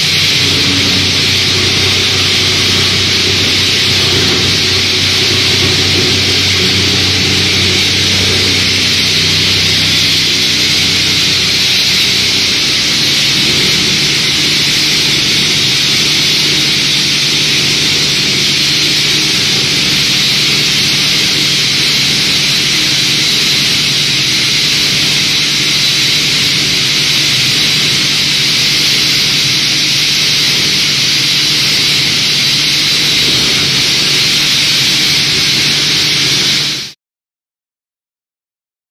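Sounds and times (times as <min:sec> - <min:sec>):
hiss of regrind through pipe: 0:00.0 - 0:37.0
low machine hum: 0:00.0 - 0:37.0
plastic granulator grinding: 0:00.0 - 0:37.0.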